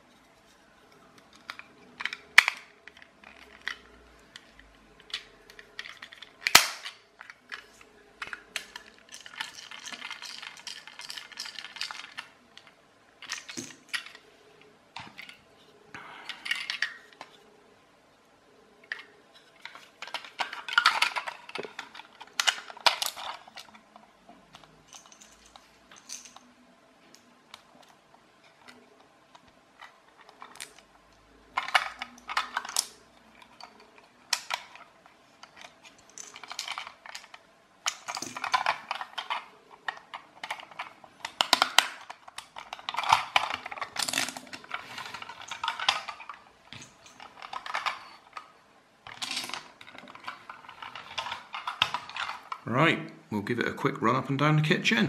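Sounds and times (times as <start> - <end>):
plastic toy clicking and rattling: 1.2 - 14.2, 18.9 - 26.5, 28.5 - 30.8, 31.5 - 52.7.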